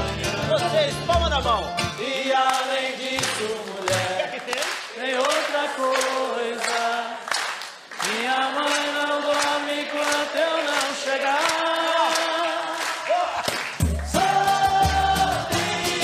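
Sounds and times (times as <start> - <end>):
unaccompanied voices singing: 1.9 - 13.0, 13.9 - 16.0.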